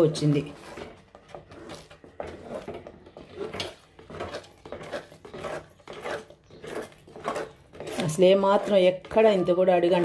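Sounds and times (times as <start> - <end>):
wooden spatula scraping jam in pot: 0.0 - 10.0.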